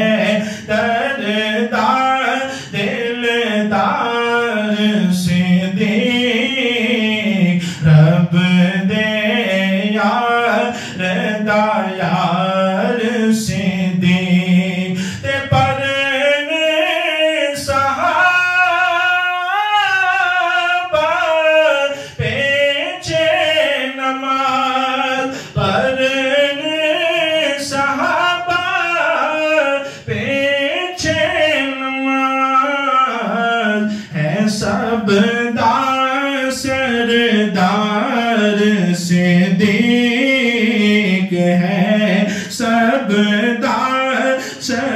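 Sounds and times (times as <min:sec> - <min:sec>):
man singing into a microphone: 0:00.0 - 0:44.9.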